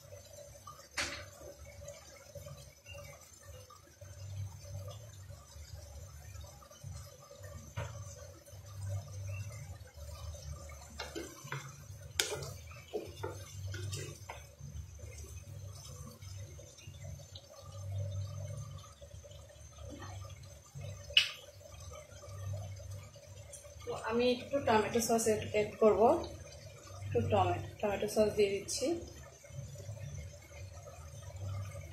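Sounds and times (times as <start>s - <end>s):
food simmering in water: 0.0s - 31.9s.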